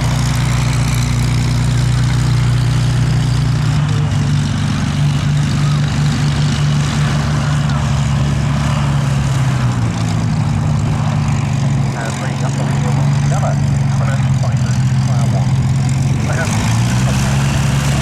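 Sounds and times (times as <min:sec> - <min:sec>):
propeller aircraft engine running: 0:00.0 - 0:18.0.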